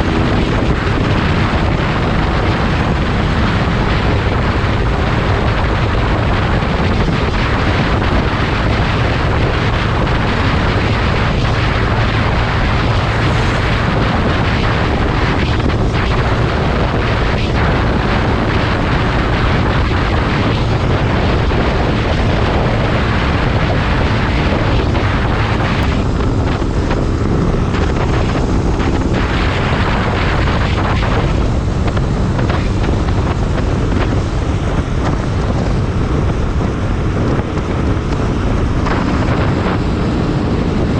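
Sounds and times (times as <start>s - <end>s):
motorcycle engine at speed: 0.0s - 40.9s
wind rushing over microphone: 0.0s - 40.9s.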